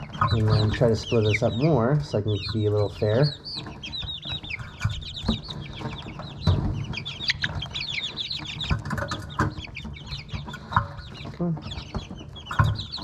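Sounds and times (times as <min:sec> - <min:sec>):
baby chicks peeping: 0:00.0 - 0:13.0.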